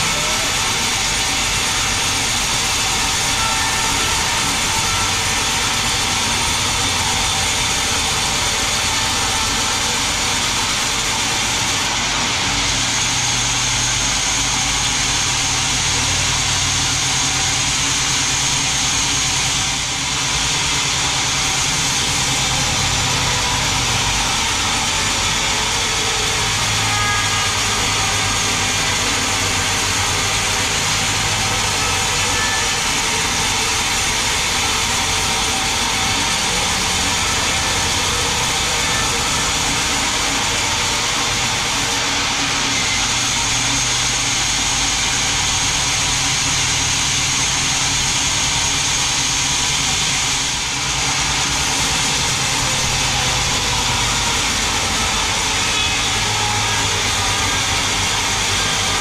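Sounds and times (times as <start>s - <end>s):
band saw cutting through log: 0.0s - 59.0s.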